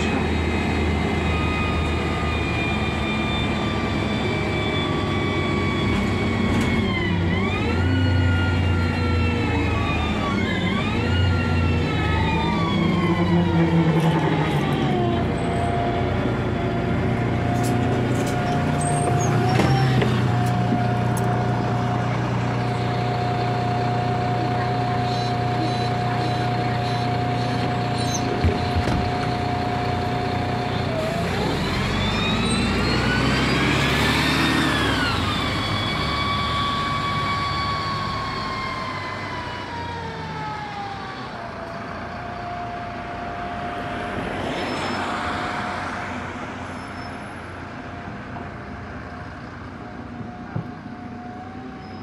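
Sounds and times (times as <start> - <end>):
bus drivetrain whine: 0.0 - 52.0
engine rumble: 0.0 - 52.0.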